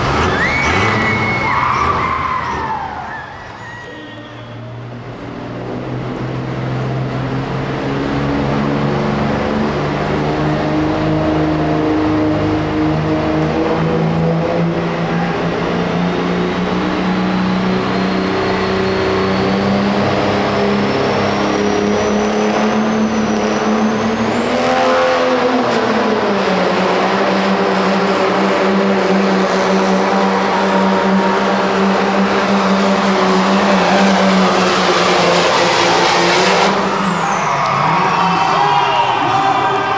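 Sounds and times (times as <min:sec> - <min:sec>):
diesel truck engine under load: 0:00.0 - 0:03.9, 0:04.8 - 0:38.6.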